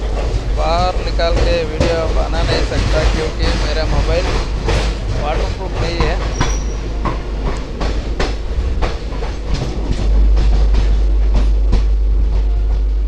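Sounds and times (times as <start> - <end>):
train running rumble: 0.0 - 13.0
train wheels clicking over rail joints: 0.0 - 13.0.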